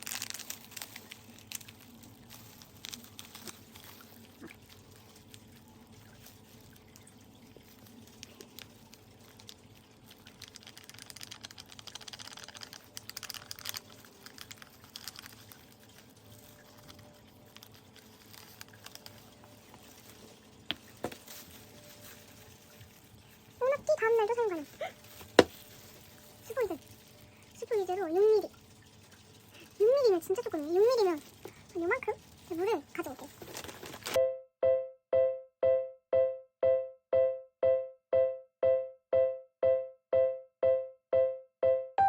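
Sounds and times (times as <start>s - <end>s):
rustling: 0.0s - 34.2s.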